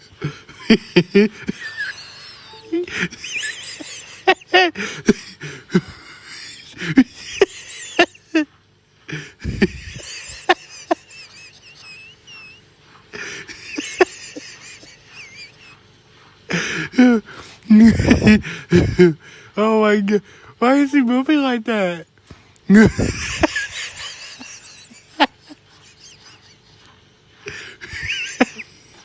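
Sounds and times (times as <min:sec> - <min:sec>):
person wheezing laughter: 0:00.0 - 0:08.5, 0:09.1 - 0:15.7, 0:16.5 - 0:19.2, 0:22.7 - 0:26.7, 0:27.4 - 0:29.0.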